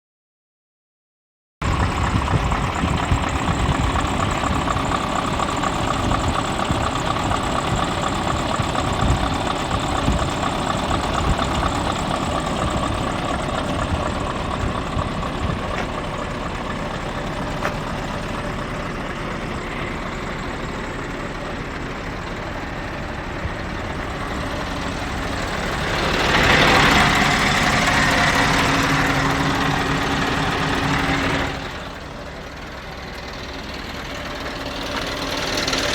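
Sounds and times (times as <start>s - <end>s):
diesel truck engine idling: 1.6s - 35.9s.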